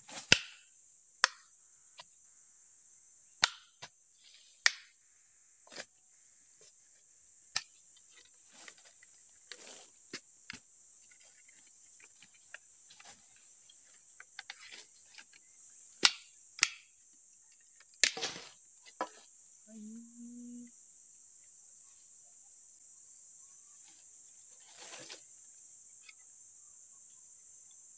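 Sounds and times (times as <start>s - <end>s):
insects droning: 0.0s - 27.9s.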